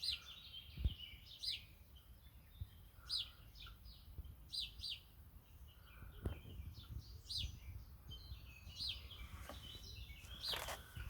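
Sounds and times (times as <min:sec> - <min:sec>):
blackbirds chirping: 0:00.0 - 0:11.0.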